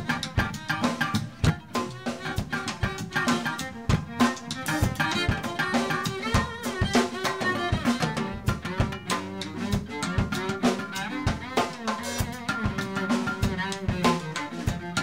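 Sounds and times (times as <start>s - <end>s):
bowed strings: 0.0s - 15.0s
drum kit with rimshots: 0.0s - 15.0s
upright bass: 0.0s - 15.0s.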